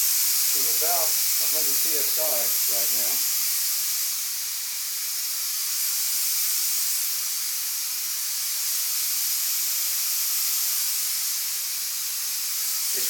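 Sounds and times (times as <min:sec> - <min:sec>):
spray gun air hiss: 0:00.0 - 0:13.0.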